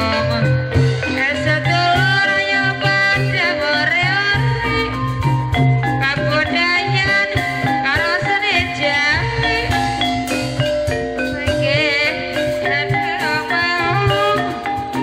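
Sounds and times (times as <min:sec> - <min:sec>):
person singing with vibrato: 0:00.0 - 0:05.2, 0:05.8 - 0:10.6, 0:11.2 - 0:15.0
drum strokes: 0:00.0 - 0:15.0
metallophones and gongs: 0:00.0 - 0:15.0.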